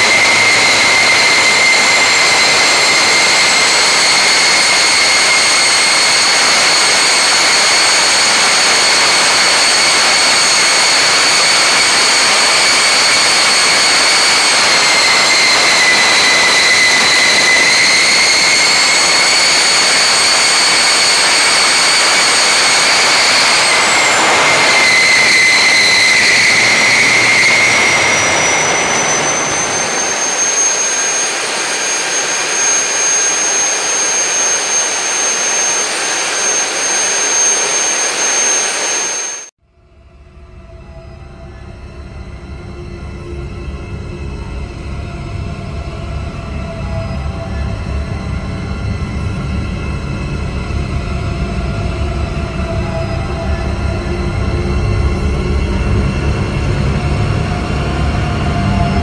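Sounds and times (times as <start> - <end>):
jet engine roaring: 0.0 - 39.5, 40.7 - 59.0
high turbine whine: 0.0 - 59.0.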